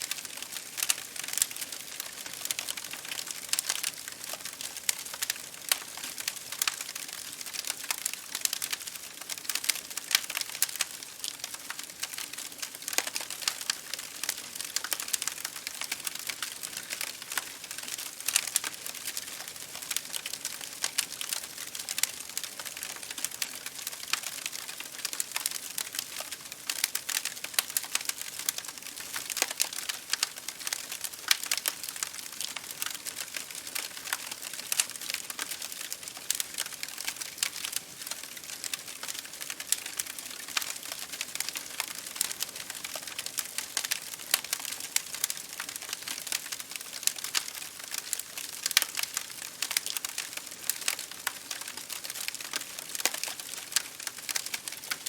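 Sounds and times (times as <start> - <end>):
wood fire crackling: 0.0 - 55.0
rain hitting a window: 0.1 - 55.0.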